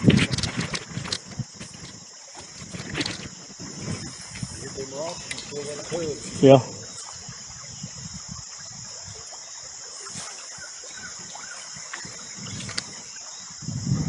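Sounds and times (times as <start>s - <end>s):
insects droning: 0.0s - 14.0s
trickle of running water: 0.0s - 14.0s.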